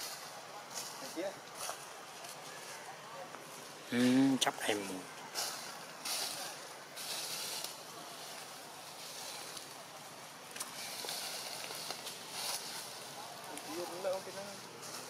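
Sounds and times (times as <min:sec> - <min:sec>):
forest ambience hiss: 0:00.0 - 0:15.0.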